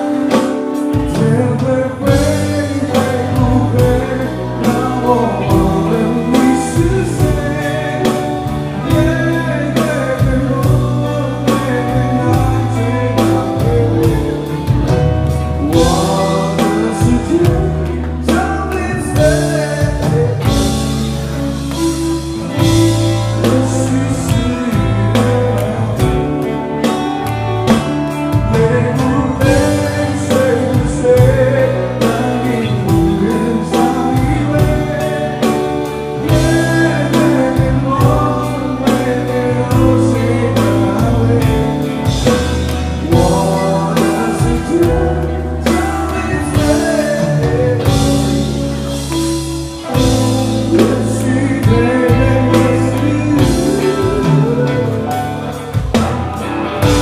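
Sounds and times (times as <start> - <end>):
bass: 0.0 - 57.0
drum kit beat: 0.0 - 57.0
guitar: 0.0 - 57.0
person singing: 0.0 - 57.0.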